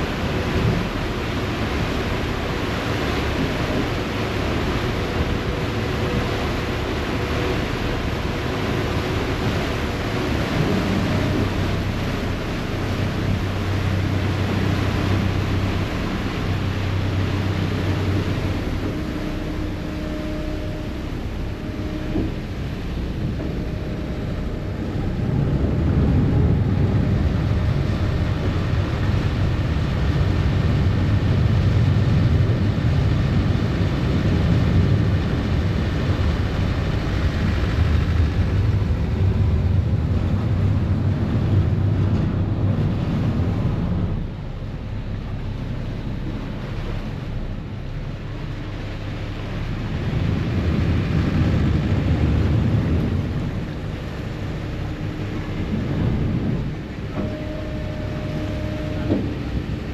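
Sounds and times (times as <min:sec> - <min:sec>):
ferry engines rumbling: 0:00.0 - 0:59.9.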